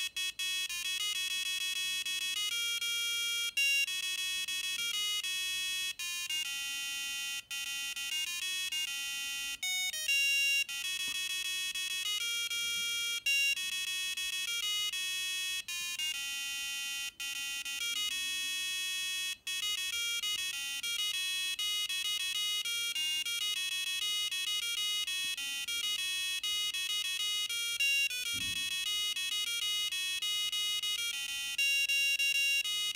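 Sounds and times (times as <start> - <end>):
electronic buzzer beeping a tune: 0.0 - 32.9.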